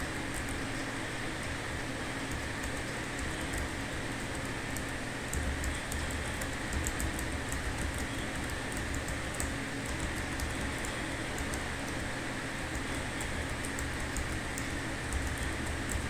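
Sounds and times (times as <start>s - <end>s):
computer keyboard typing: 2.3s - 12.0s, 12.7s - 16.0s.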